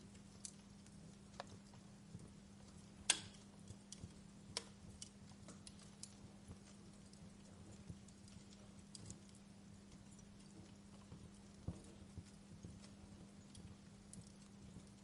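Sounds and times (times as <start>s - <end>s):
firewood crackling: 0.0s - 15.0s
steady low hum: 0.0s - 15.0s.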